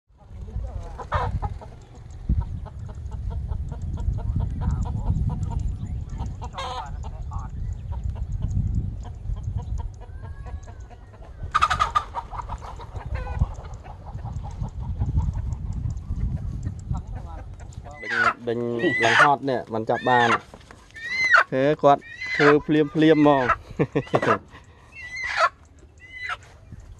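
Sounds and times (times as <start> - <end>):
wind rumbling on microphone: 0.1 - 24.6, 25.9 - 26.9
chickens clucking: 0.6 - 26.9.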